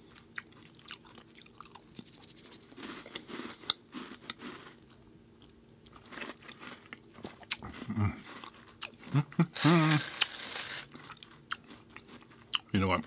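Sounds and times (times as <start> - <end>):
cookie chewing and crunching: 0.0 - 13.0.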